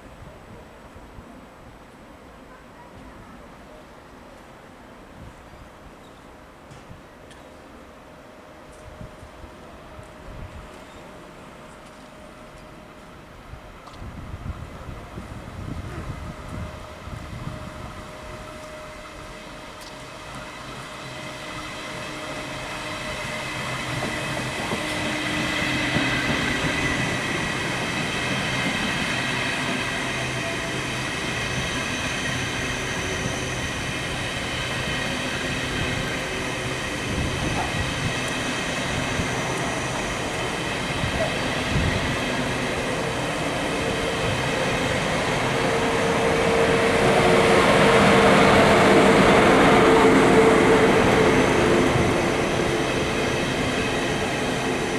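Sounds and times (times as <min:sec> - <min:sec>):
train wheels rumbling: 0:08.6 - 0:54.9.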